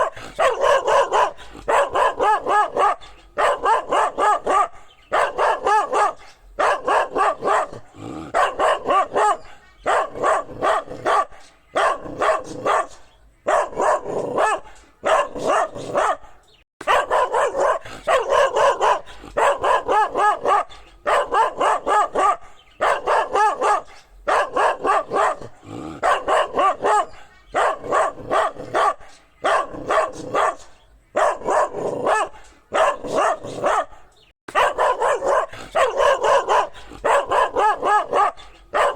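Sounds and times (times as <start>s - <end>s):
dog barking: 0.0s - 38.9s.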